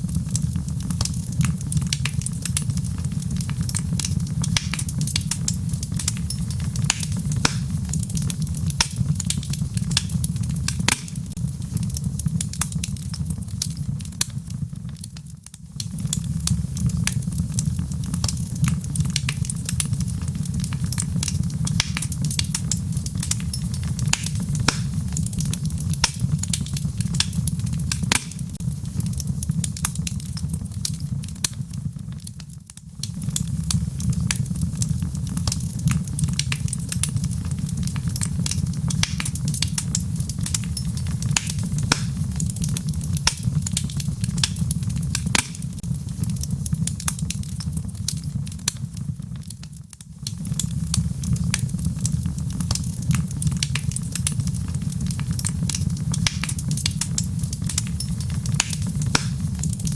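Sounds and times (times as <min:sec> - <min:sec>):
fire crackling and popping: 0:00.0 - 0:59.9
low rumble of fire: 0:00.0 - 0:59.9.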